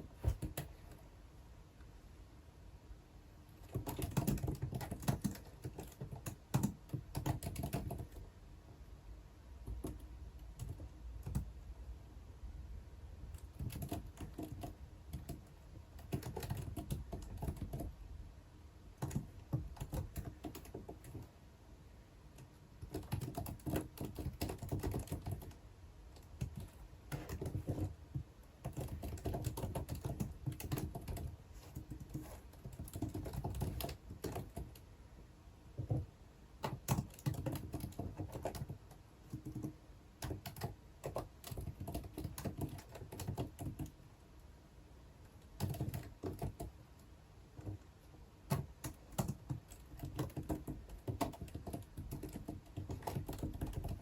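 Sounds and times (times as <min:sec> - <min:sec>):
typing on a computer keyboard: 0:00.2 - 0:01.0, 0:03.6 - 0:08.4, 0:09.6 - 0:11.6, 0:13.3 - 0:18.0, 0:19.0 - 0:21.3, 0:22.3 - 0:34.9, 0:35.8 - 0:44.0, 0:45.2 - 0:54.0.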